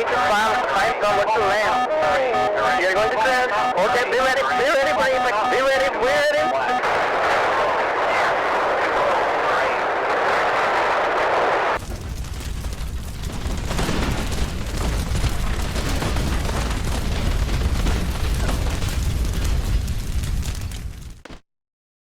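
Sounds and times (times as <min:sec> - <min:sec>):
explosion rumble with crackling: 0:00.0 - 0:21.4.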